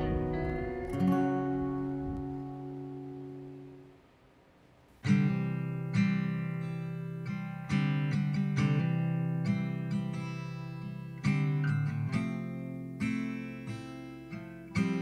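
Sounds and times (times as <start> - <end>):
strummed guitar chords: 0.0 - 4.1, 4.9 - 15.0.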